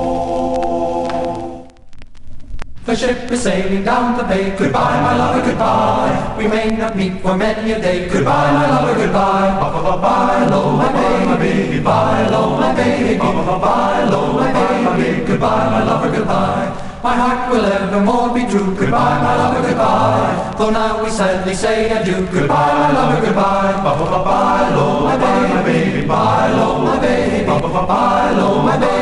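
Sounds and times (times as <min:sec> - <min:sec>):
choir singing: 0:00.0 - 0:01.7, 0:02.9 - 0:29.0.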